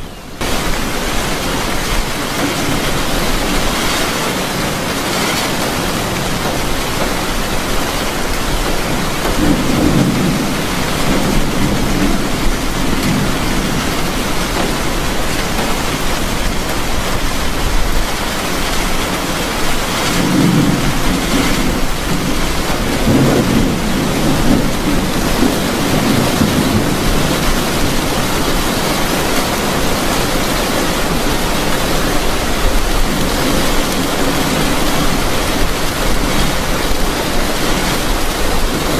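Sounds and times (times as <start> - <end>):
heavy rain on vehicle roof: 0.0 - 38.9.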